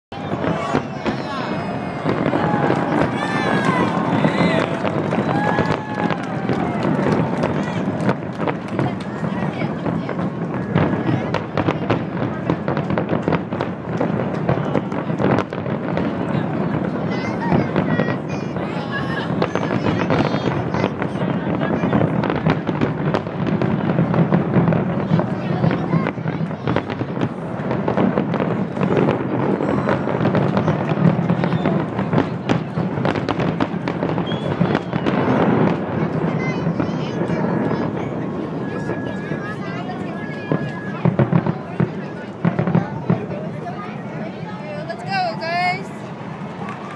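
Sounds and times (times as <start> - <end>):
fireworks bangs and crackles: 0.1 - 46.9.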